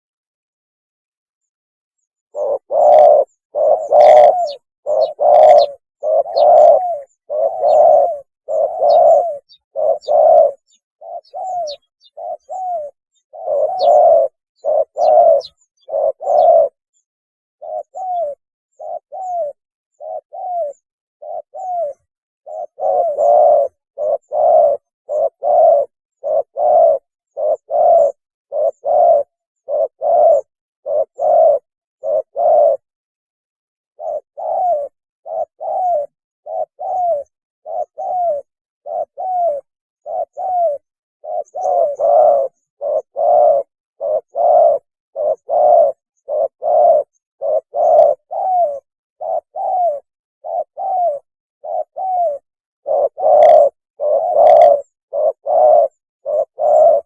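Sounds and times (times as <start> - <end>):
dove cooing: 2.3 - 16.8, 17.6 - 32.9, 34.0 - 57.0.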